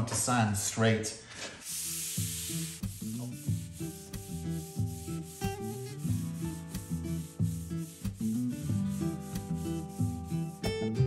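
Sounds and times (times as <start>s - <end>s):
hand sanding wood: 1.6s - 10.6s
soft background music: 1.7s - 11.0s.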